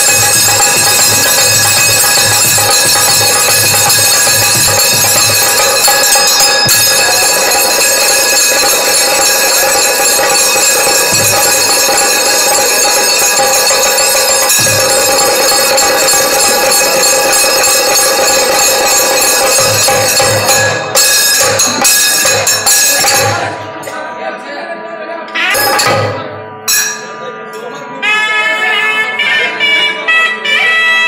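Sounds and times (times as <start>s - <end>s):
hand cymbals ringing: 0.0s - 24.0s, 25.4s - 28.2s.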